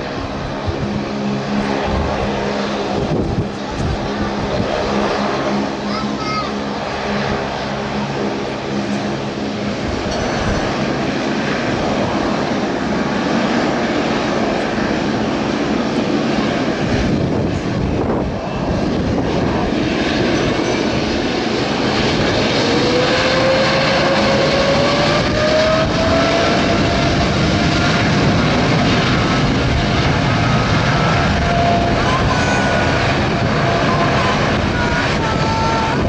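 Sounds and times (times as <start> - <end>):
jet engine whine rising: 0.0 - 36.0
jet engines roaring: 0.0 - 36.0.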